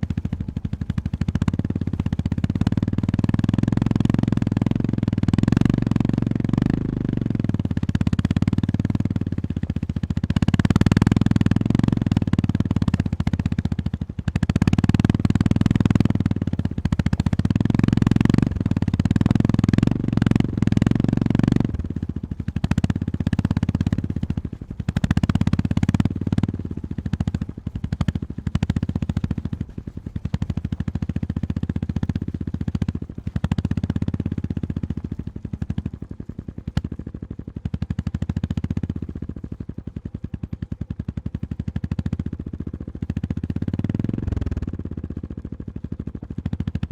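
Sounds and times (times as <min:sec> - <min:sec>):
motorcycle engine thumping: 0:00.0 - 0:37.7.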